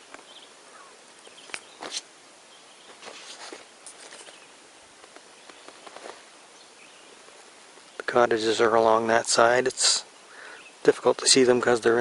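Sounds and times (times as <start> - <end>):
soft steady hiss: 0.0 - 12.0.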